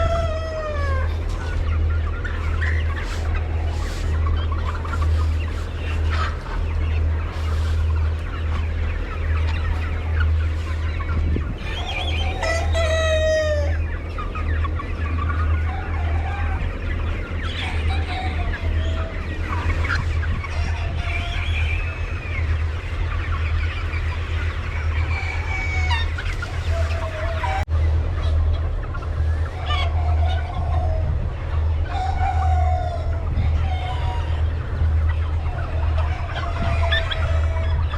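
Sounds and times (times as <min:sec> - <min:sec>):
chickens clucking: 0:00.0 - 0:37.9.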